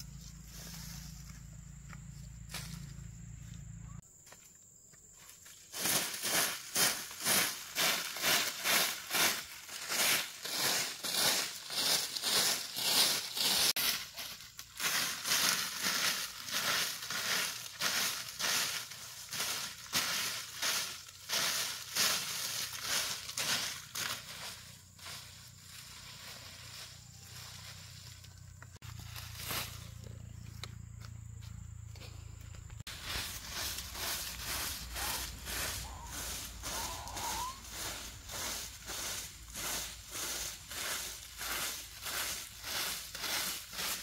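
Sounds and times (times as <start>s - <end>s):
broom sweeping dry leaves: 0.0s - 3.0s, 5.3s - 30.3s, 32.8s - 44.0s.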